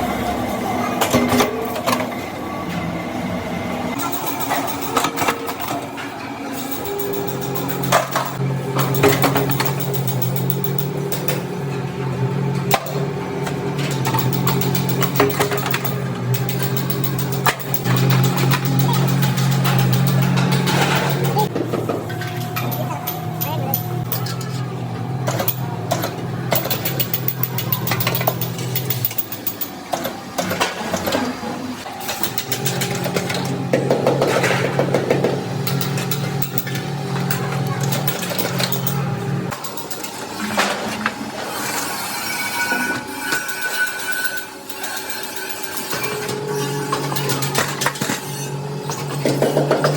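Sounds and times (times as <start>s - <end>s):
workshop machine humming: 0.0s - 49.9s.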